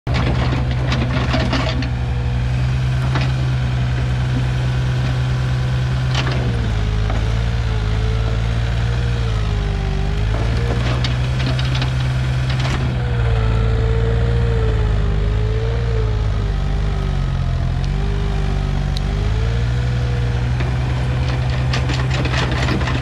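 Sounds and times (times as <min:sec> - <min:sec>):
excavator diesel engine running: 0:00.1 - 0:23.0.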